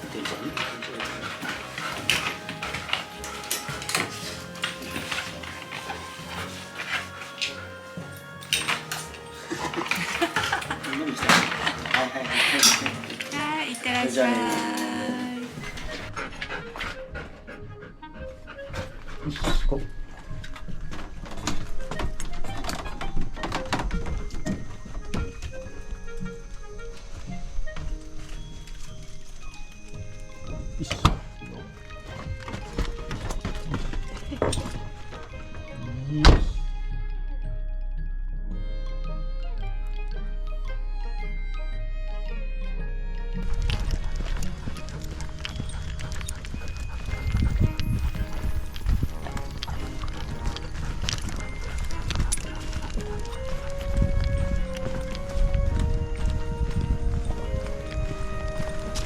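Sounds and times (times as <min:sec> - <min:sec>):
background music with quick notes: 0:00.0 - 0:59.0.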